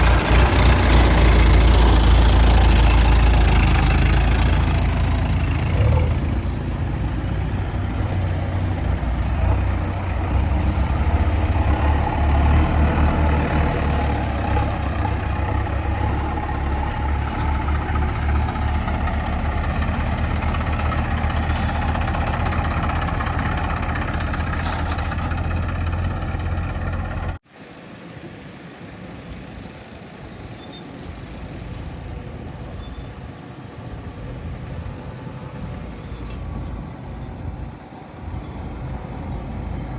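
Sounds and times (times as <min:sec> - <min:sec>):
distant vehicle engine: 0:00.0 - 0:27.4, 0:28.8 - 0:39.9
heavy diesel engine running: 0:00.0 - 0:27.4, 0:31.0 - 0:39.9.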